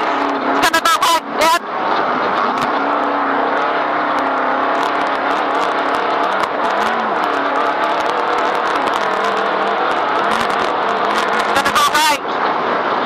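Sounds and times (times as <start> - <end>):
vehicle engine running at speed: 0.0 - 13.0.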